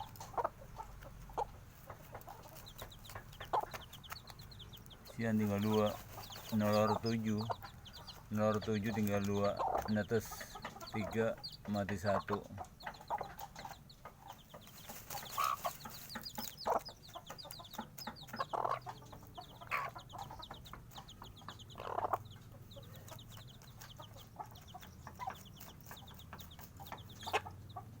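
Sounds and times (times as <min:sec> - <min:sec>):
chicks peeping: 0:00.0 - 0:28.0
hen clucking: 0:00.0 - 0:28.0.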